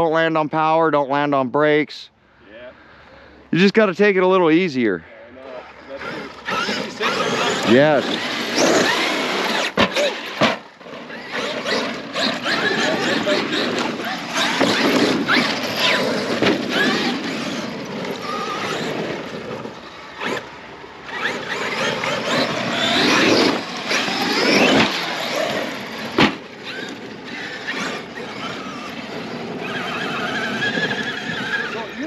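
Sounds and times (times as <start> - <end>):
electric motors whining: 5.6 - 32.0.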